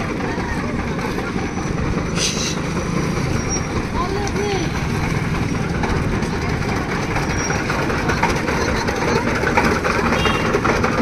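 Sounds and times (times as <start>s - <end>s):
busy street market noise: 0.0s - 11.0s
engine running close by: 0.0s - 11.0s.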